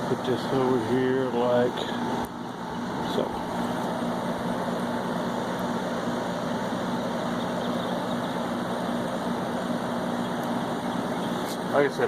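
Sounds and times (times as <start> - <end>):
air conditioner fan rushing: 0.0 - 12.0
low compressor hum: 0.0 - 12.0.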